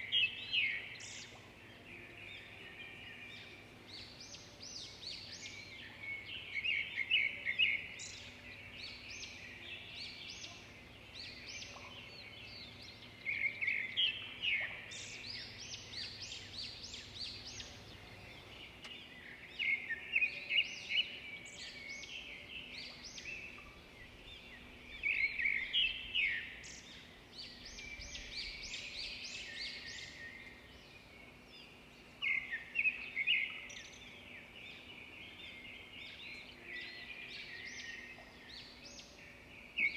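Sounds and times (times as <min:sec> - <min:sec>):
faint steady hum: 0:00.0 - 0:39.8
songbirds chirping: 0:00.0 - 0:39.9.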